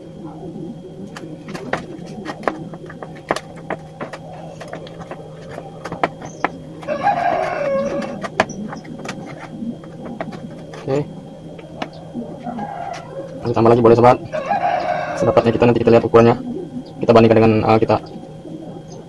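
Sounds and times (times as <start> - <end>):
rooster crowing: 0.0 - 16.1
faint steady hum: 0.0 - 19.0.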